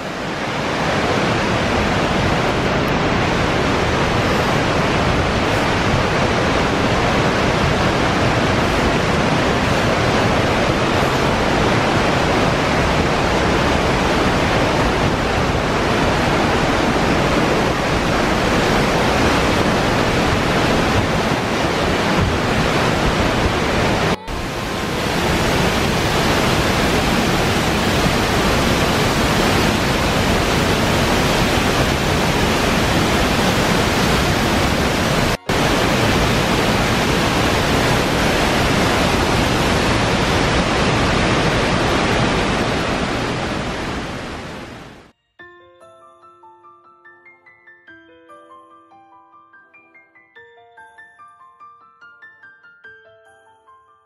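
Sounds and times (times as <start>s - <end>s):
waterfall rushing: 0.0s - 45.1s.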